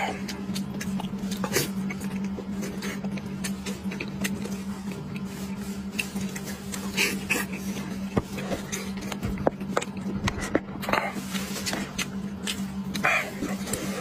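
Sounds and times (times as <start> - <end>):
chewing mouth noises: 0.0 - 14.0
steady low hum: 0.0 - 14.0.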